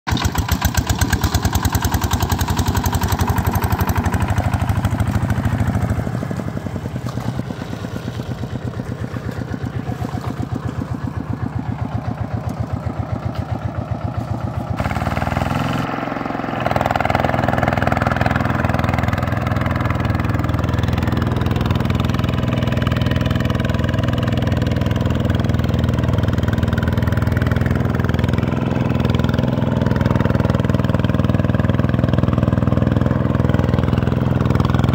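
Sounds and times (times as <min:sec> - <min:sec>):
diesel engine chugging: 0:00.1 - 0:34.9.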